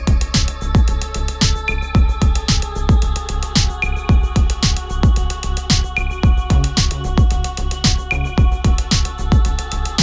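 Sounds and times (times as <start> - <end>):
kick-drum beat: 0.0 - 9.6.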